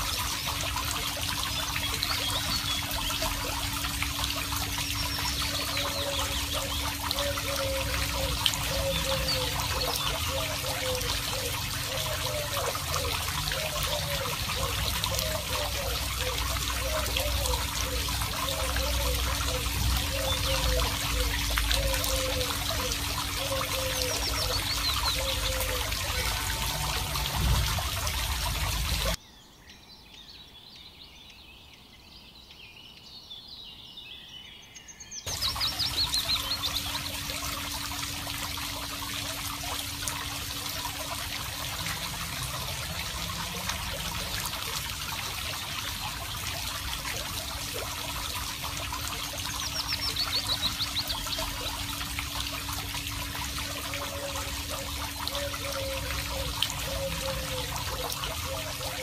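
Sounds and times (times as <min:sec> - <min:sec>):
water trickling and splashing: 0:00.0 - 0:29.2, 0:35.2 - 0:59.0.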